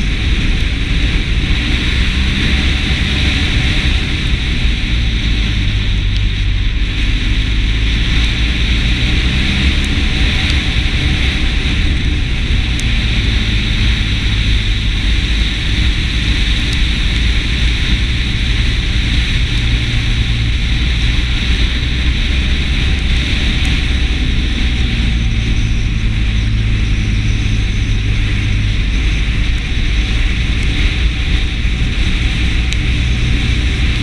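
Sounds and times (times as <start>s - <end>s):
motorcycle engine running: 0.0s - 34.0s
wind noise on microphone: 0.0s - 34.0s.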